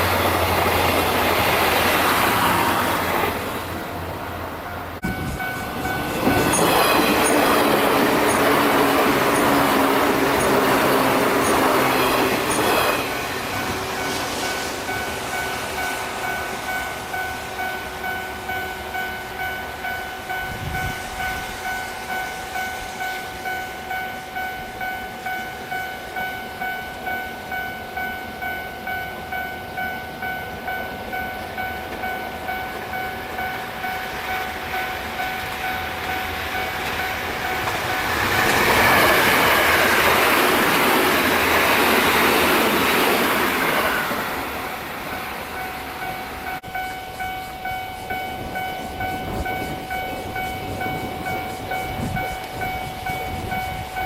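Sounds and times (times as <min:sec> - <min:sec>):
level-crossing warning bell ringing: 0:00.0 - 0:54.0
train rushing past: 0:00.0 - 0:54.0.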